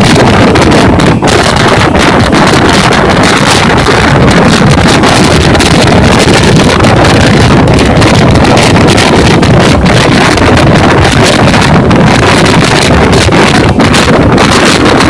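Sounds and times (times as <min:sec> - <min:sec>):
train rumbling at high speed: 0:00.0 - 0:15.0
wind buffeting microphone: 0:00.0 - 0:15.0.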